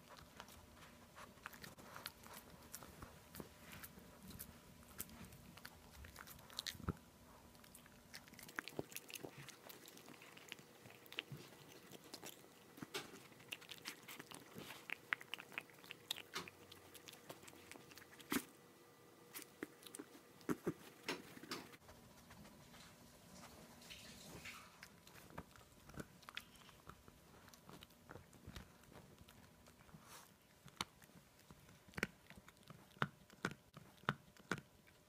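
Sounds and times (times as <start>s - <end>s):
dog gnawing on a bone: 0.0s - 18.5s, 23.8s - 35.0s.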